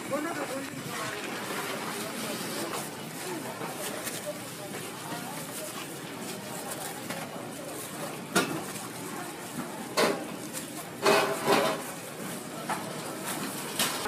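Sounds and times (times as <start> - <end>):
plastic bag rustling: 0.0 - 14.0.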